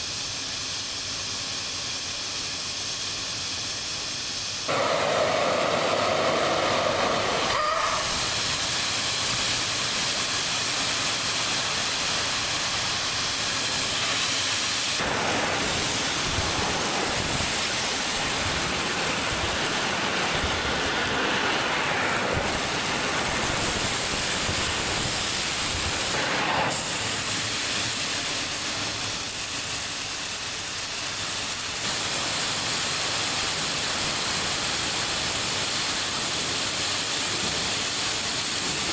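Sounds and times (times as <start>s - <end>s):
grain vacuum hissing: 0.0s - 38.9s.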